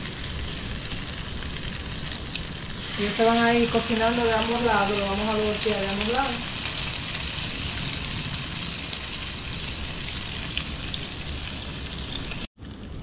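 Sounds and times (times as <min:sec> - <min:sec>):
bread sizzling in a pan: 0:00.0 - 0:12.8.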